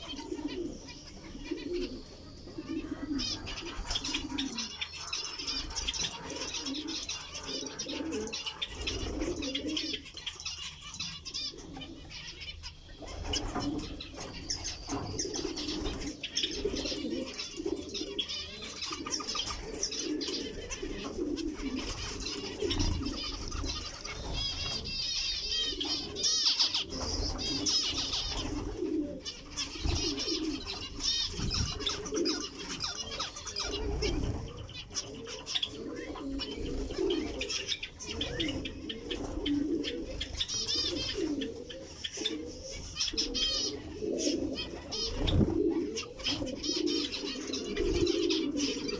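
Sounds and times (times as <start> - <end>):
caged birds calling: 0.0 - 48.9
high chirping birdsong: 0.0 - 48.9.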